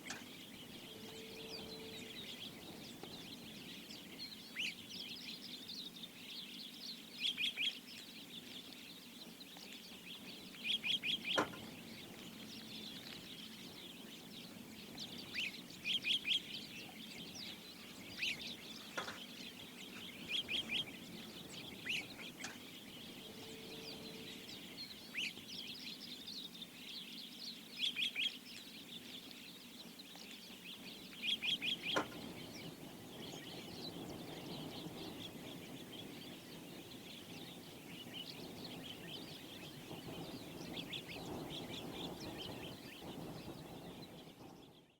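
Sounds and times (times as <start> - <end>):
wild birds calling: 0.0 - 6.0, 9.6 - 26.6, 29.1 - 44.7
bird chirps: 0.0 - 44.9.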